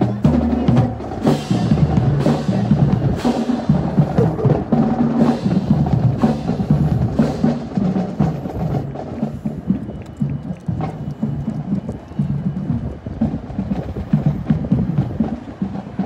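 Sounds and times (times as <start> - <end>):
bass drum beats: 0.0 - 16.0
marching drum line: 0.0 - 16.0.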